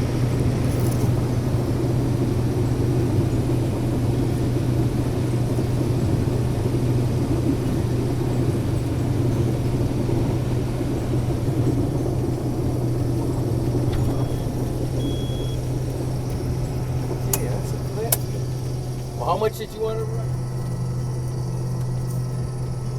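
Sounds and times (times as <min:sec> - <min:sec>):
combine harvester engine drone: 0:00.0 - 0:22.9.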